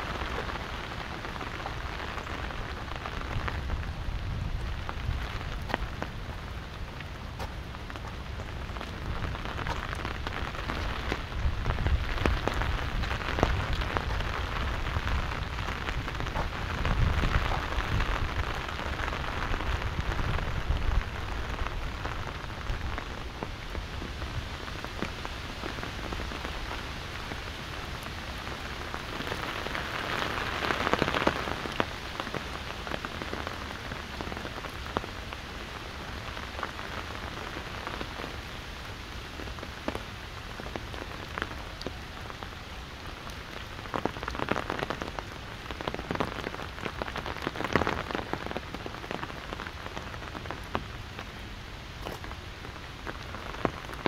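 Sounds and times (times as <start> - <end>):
rain on an umbrella: 0.0 - 54.0.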